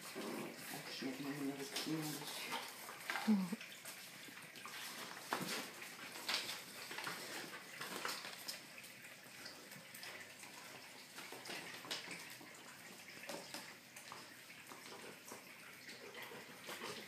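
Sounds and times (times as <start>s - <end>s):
dogs scuffling on tiled floor: 0.0s - 17.0s.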